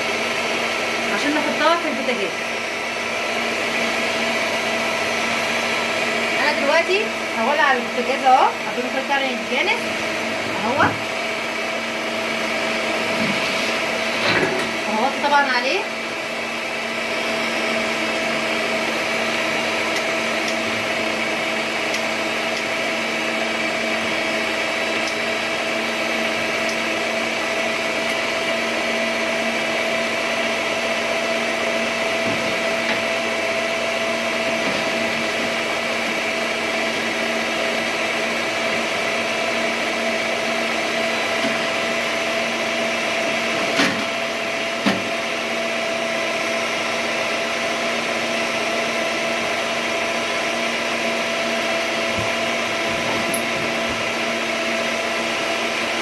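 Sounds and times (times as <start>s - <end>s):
stand mixer motor whine: 0.0s - 56.0s.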